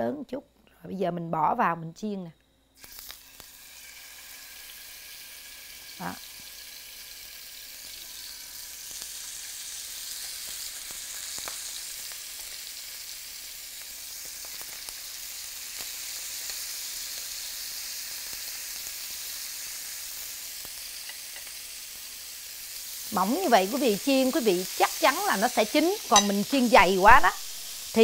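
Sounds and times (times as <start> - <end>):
pork sizzling in hot oil: 2.8 - 28.0.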